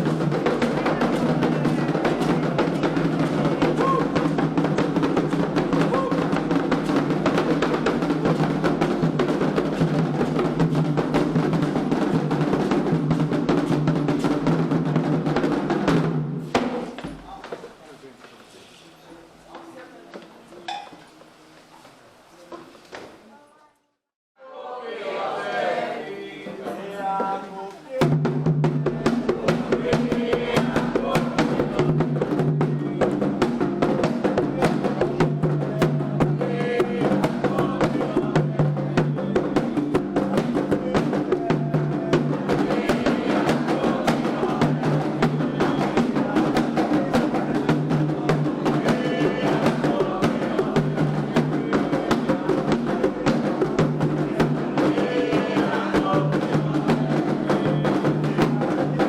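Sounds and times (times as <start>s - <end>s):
fast hand drumming: 0.0s - 16.9s, 28.0s - 59.0s.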